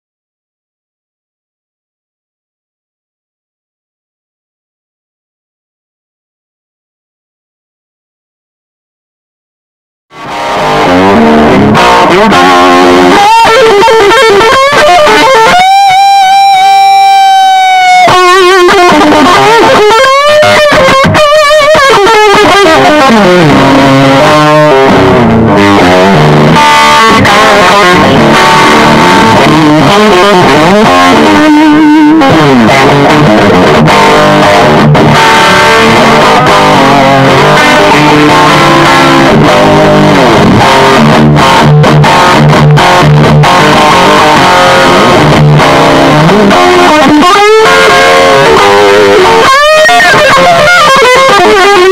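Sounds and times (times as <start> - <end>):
loud electric guitar: 10.1 - 51.9.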